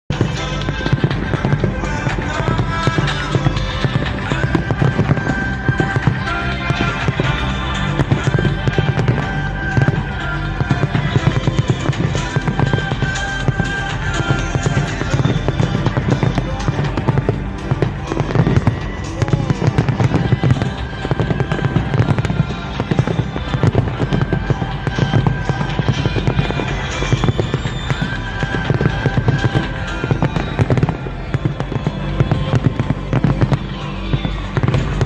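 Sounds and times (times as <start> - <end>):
fireworks bangs and crackles: 0.1 - 35.0
music playing: 0.1 - 35.0.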